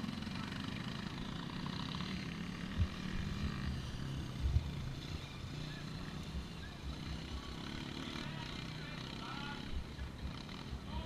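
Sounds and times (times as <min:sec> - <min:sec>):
motocross bike engines: 0:00.0 - 0:11.0.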